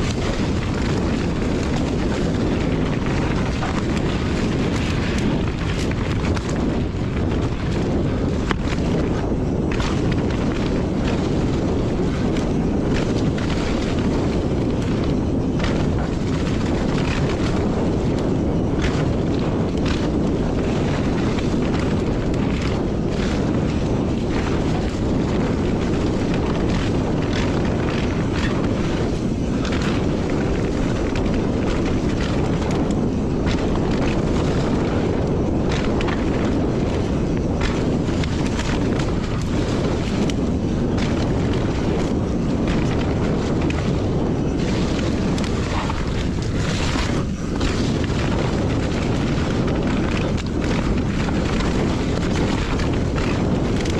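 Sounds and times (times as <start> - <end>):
mountain bike rolling on dirt: 0.0 - 53.9
wind buffeting microphone: 0.0 - 53.9.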